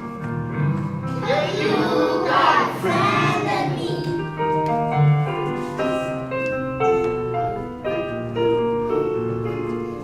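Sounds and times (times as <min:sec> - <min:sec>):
piano playing: 0:00.0 - 0:10.0.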